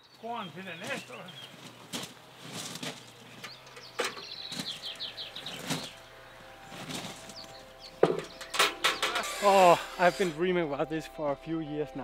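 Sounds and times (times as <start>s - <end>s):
small bird singing: 0.0s - 10.4s.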